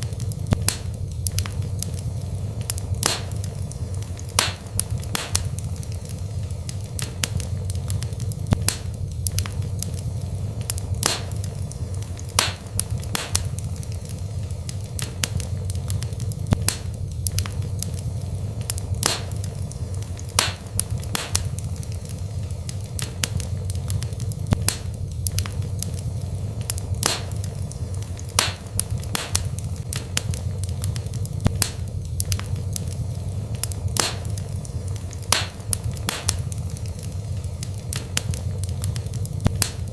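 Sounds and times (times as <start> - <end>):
low fire rumble: 0.0 - 39.9
sharp irregular pops: 0.0 - 39.9
wood fire crackling: 0.0 - 39.9.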